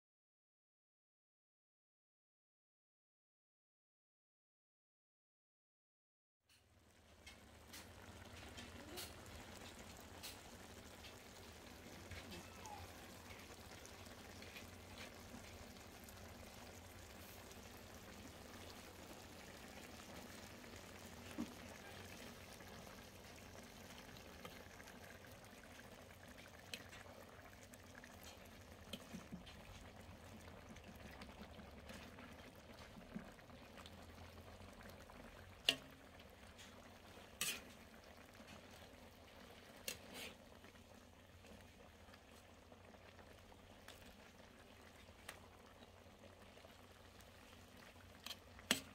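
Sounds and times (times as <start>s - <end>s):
food simmering in a wok: 6.5s - 48.9s.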